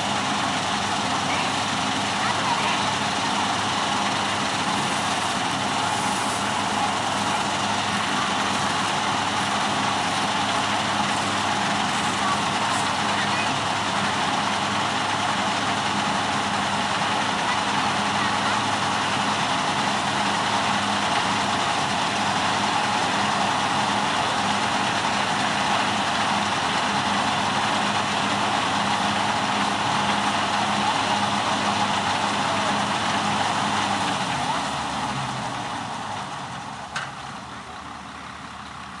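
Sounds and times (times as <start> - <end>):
auger discharging grain: 0.0 - 39.0
combine harvester engine running: 0.0 - 39.0.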